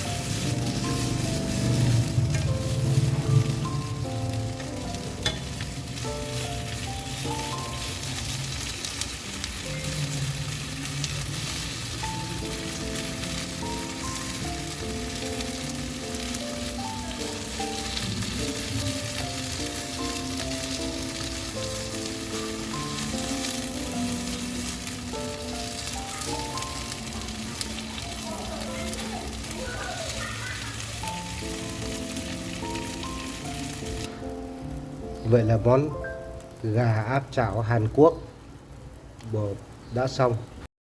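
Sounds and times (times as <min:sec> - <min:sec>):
background music: 0:00.0 - 0:38.2
chicken sizzling in frying pan: 0:00.0 - 0:40.7.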